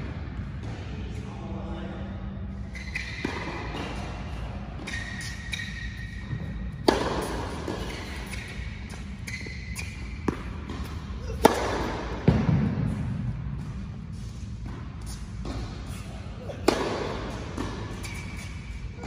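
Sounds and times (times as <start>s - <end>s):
racket striking tennis balls: 2.9s - 18.8s.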